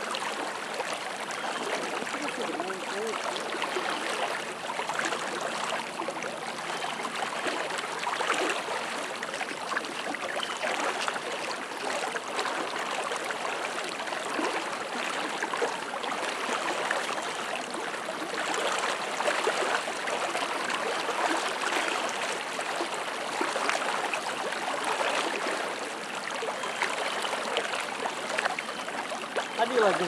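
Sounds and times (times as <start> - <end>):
river current rushing and splashing: 0.0 - 30.0.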